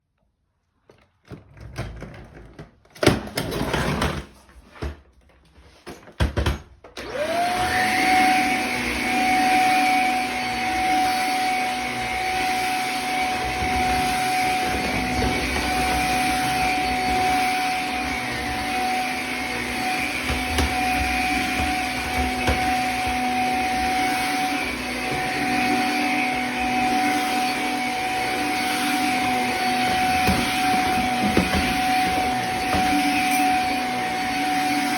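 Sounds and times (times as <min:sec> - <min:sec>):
vacuum cleaner motor whine: 0:06.4 - 0:34.9.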